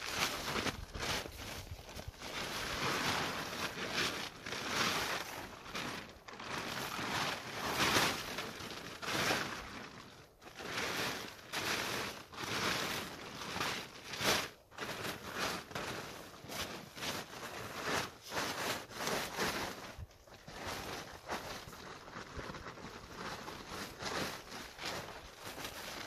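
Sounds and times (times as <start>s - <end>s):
tarp rustling and crumpling: 0.0s - 26.0s.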